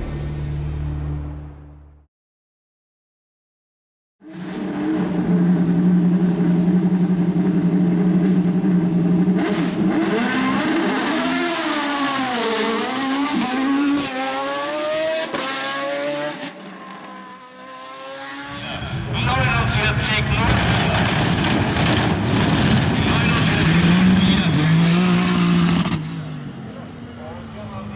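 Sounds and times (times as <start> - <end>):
race car engine accelerating: 4.2 - 19.1, 19.7 - 27.9.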